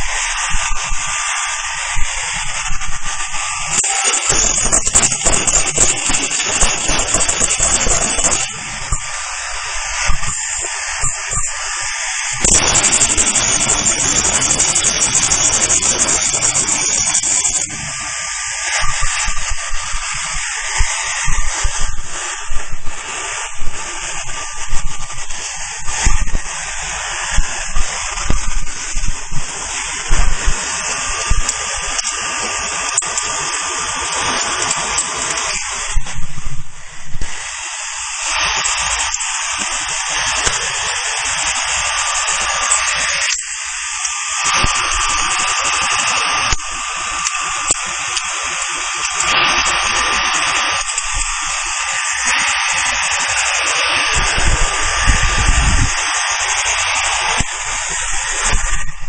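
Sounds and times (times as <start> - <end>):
welding machine hiss-buzz: 0.0 - 59.0.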